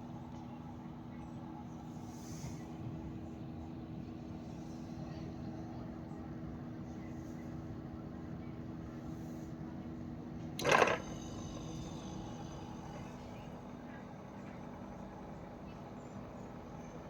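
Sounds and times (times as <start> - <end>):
dehumidifier humming: 0.0 - 17.0.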